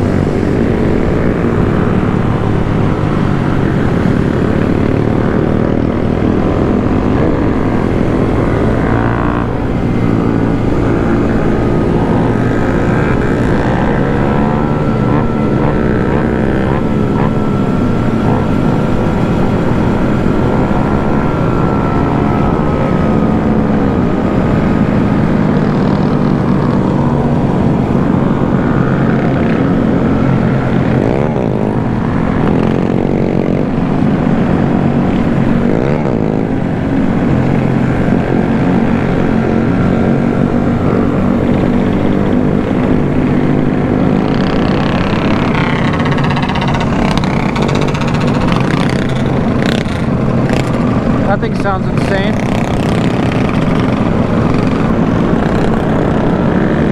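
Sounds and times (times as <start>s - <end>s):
motorcycle engines revving: 0.0s - 56.9s.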